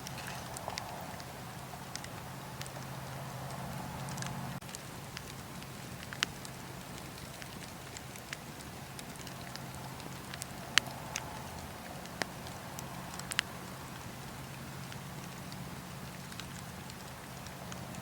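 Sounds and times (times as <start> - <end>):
fire crackling and popping: 0.0 - 18.0
low steady hum: 0.0 - 18.0.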